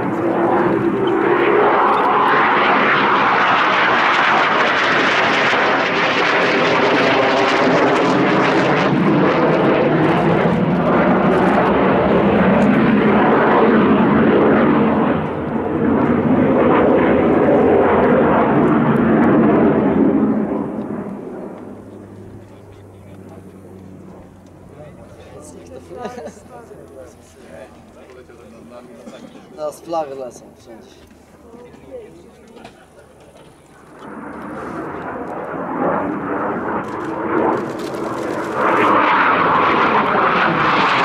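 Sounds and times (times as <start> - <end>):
jet engine rush: 0.0 - 41.0.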